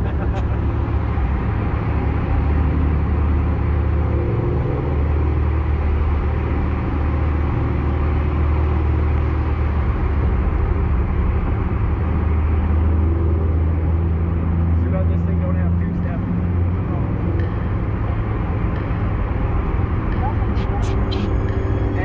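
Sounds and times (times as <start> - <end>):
car engine cruising: 0.0 - 22.0
tyre and road noise: 0.0 - 22.0.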